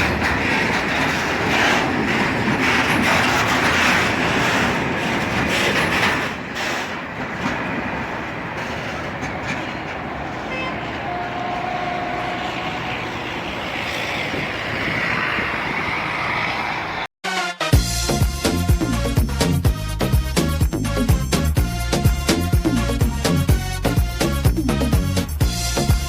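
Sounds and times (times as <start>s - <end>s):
train wheels rumbling on rail: 0.0s - 17.1s, 20.0s - 26.0s.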